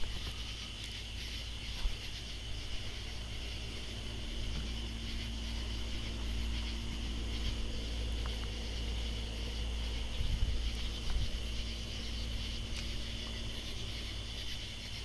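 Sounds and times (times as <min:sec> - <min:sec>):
katydids calling: 0:00.0 - 0:15.0
low machine hum: 0:00.0 - 0:15.0.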